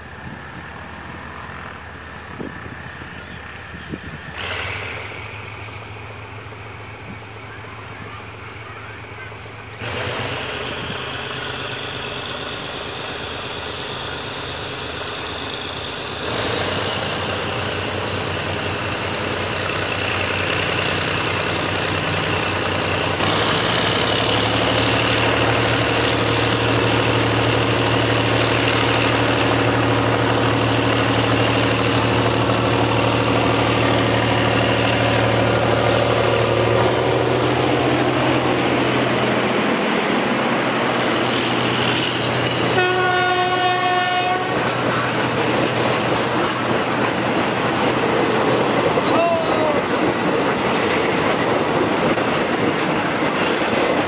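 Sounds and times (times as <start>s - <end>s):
high engine whine: 0.0s - 54.0s
locomotive engine hum: 0.0s - 54.0s.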